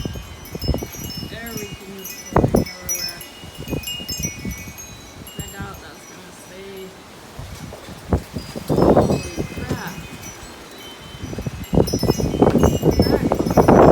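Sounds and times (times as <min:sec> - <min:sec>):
wind buffeting microphone: 0:00.0 - 0:13.9
wind chimes ringing: 0:00.0 - 0:13.9.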